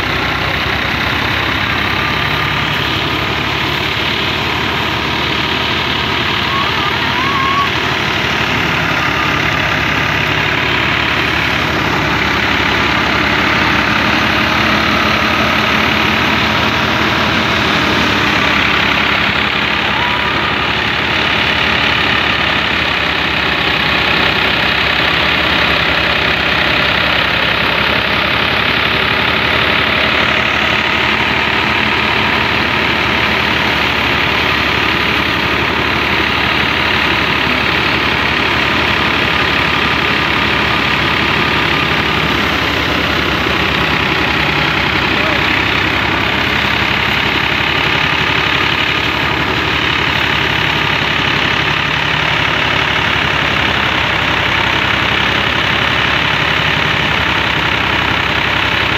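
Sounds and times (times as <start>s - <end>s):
tractor diesel engine and thresher: 0.0s - 58.9s.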